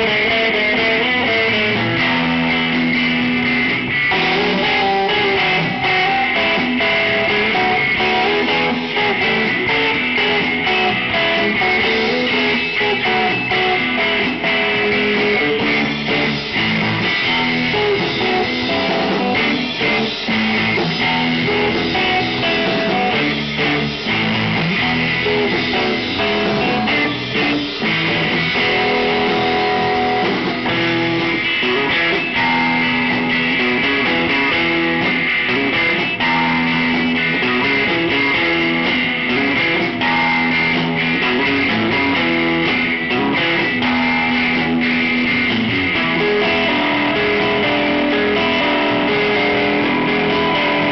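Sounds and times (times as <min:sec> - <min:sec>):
bass guitar: 0:00.0 - 0:50.9
drums: 0:00.0 - 0:50.9
electric guitars: 0:00.0 - 0:50.9.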